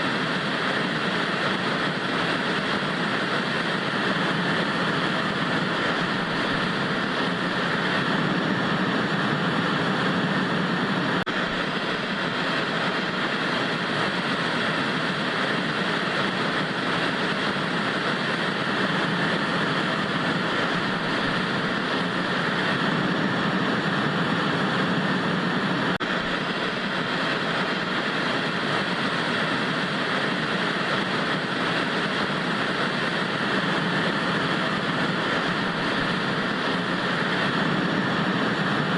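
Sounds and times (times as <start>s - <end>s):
television static hiss: 0.0s - 38.9s.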